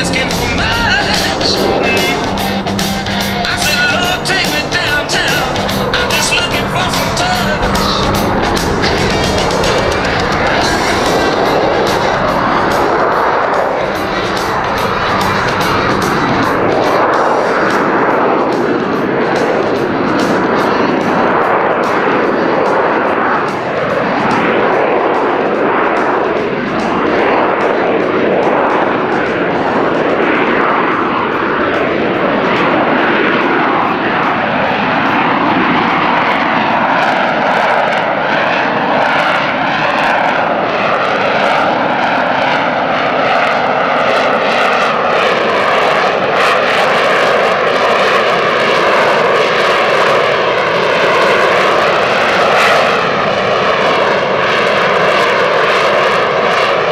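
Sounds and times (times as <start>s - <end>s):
jet engine running: 0.0s - 56.9s.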